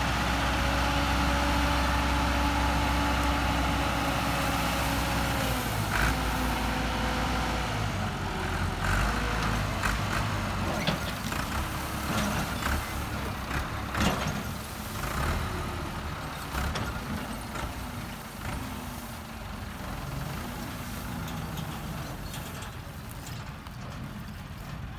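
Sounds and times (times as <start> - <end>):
tractor diesel engine under load: 0.0 - 24.9.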